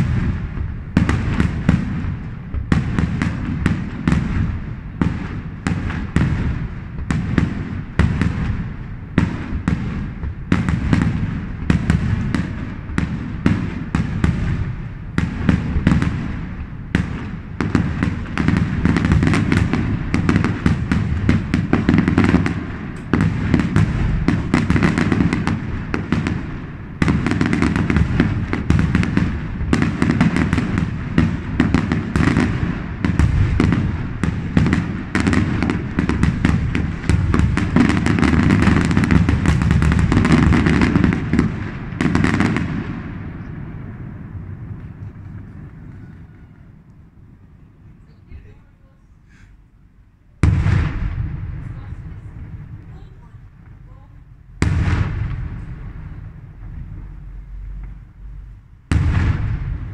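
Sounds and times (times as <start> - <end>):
fireworks crackle: 0.0 - 59.9.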